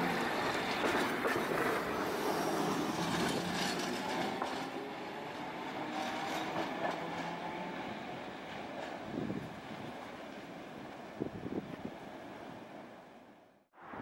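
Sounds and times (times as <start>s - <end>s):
wheels rolling on rails: 0.0s - 12.0s.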